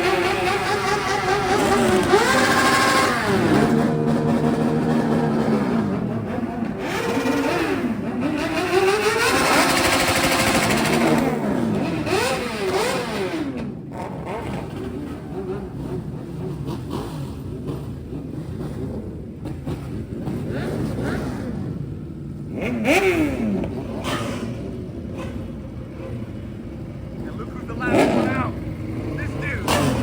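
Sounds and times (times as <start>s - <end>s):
motorbike engines revving: 0.0s - 30.0s.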